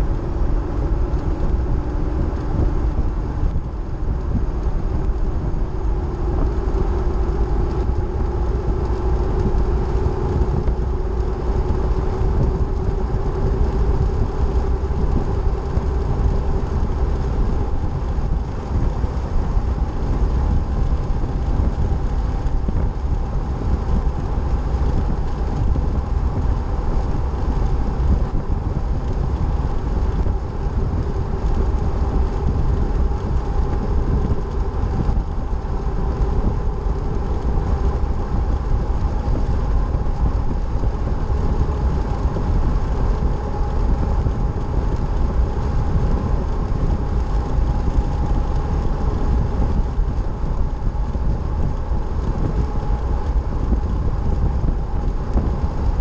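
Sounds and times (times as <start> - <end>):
faint steady whine: 0.0 - 56.0
vehicle road noise: 0.0 - 56.0.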